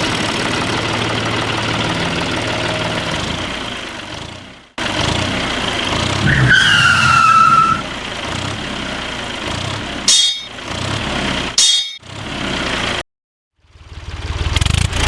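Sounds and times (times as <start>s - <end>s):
model diesel engine running: 0.0s - 13.0s, 13.6s - 15.0s.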